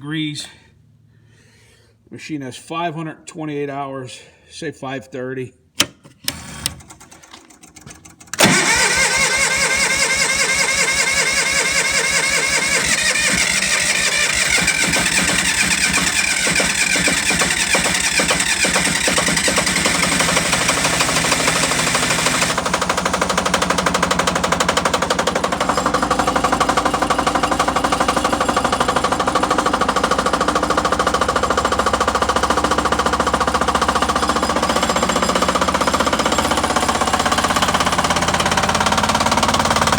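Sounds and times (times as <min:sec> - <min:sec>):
diesel generator starting and running: 0:05.7 - 0:39.9.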